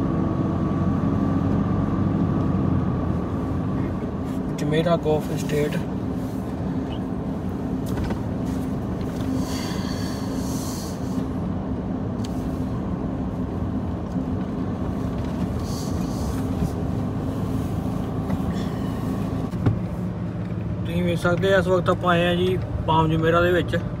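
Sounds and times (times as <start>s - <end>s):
car engine and tyres hum: 0.0s - 24.0s.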